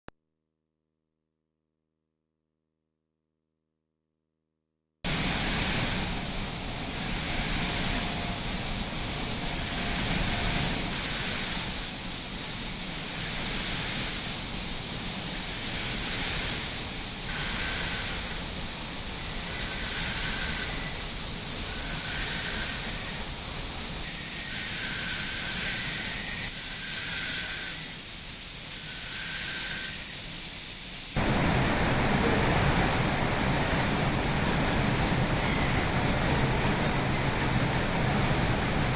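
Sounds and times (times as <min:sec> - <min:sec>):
spray equipment hissing: 0:05.1 - 0:38.9.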